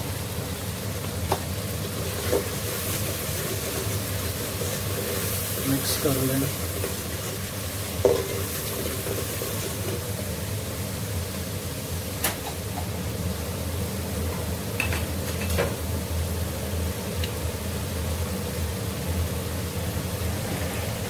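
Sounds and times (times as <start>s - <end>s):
masala sizzling in a pot: 0.0s - 21.0s.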